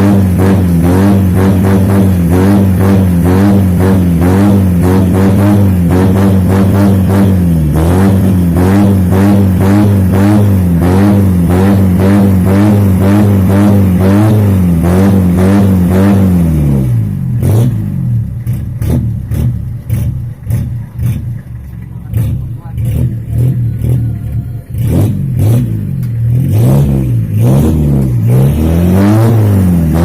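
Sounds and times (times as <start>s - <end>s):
engine revving and idling: 0.0s - 30.0s.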